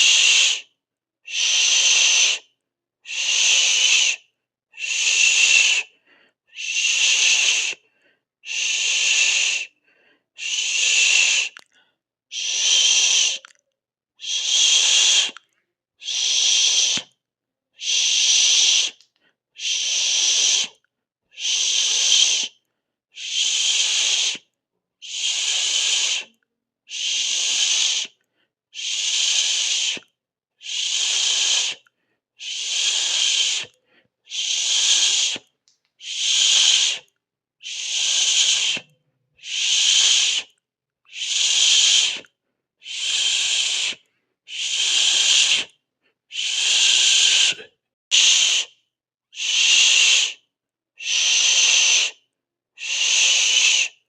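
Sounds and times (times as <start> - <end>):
person hissing through mouth: 0.0 - 0.7, 1.3 - 4.2, 4.8 - 7.8, 8.4 - 9.7, 10.4 - 11.7, 12.3 - 13.6, 14.2 - 15.4, 16.0 - 17.2, 17.8 - 22.6, 23.2 - 48.8, 49.4 - 54.0.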